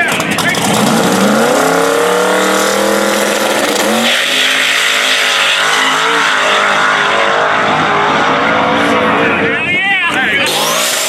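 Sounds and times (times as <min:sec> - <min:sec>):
drag race car engine accelerating: 0:00.0 - 0:11.0.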